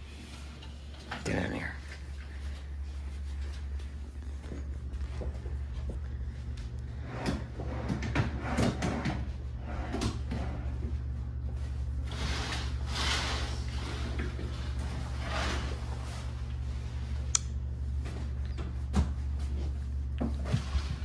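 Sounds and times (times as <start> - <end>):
rustling and shuffling: 0.0 - 21.0
steady low hum: 0.0 - 21.0.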